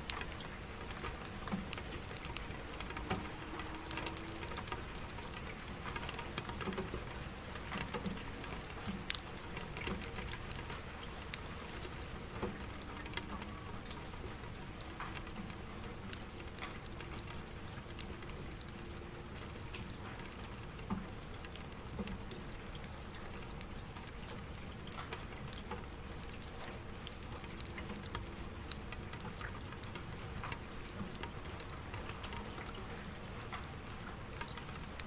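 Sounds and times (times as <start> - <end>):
rain pattering on hard surface: 0.0 - 35.0.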